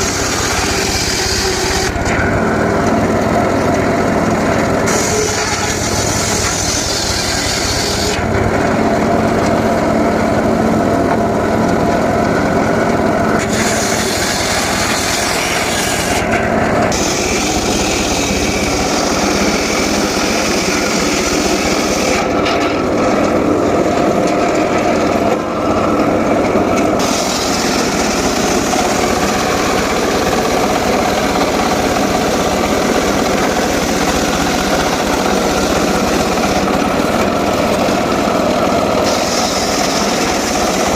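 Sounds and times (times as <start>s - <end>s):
circular saw cutting wood: 0.0s - 40.9s.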